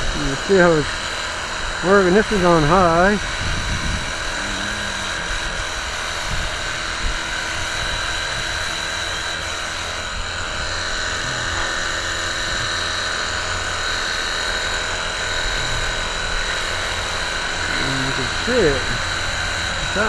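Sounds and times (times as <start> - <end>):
pressure washer pump whine: 0.0 - 20.0.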